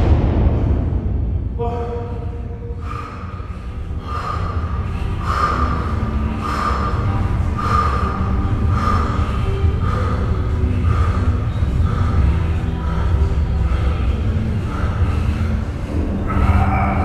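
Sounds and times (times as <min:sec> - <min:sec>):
steady low rumble: 0:00.0 - 0:17.0
man breathing heavily: 0:01.7 - 0:17.0.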